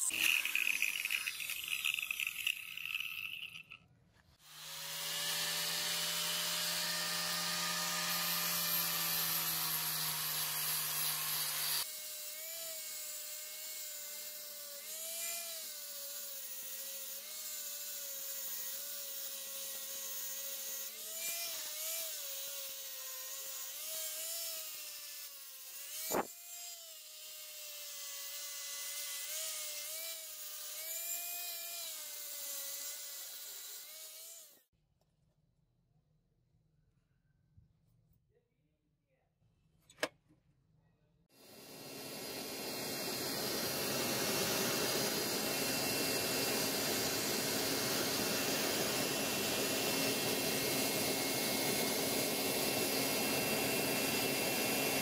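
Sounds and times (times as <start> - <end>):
angle grinder grinding metal: 0.0 - 3.8, 4.4 - 34.6, 41.4 - 55.0.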